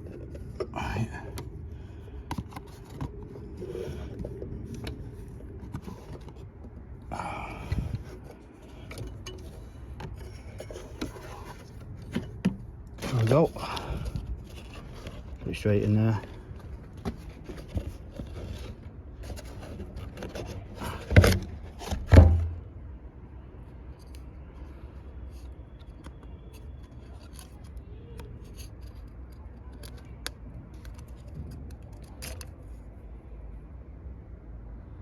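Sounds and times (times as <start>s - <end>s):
small parts clicking and scraping: 0.0s - 21.8s, 23.8s - 33.0s.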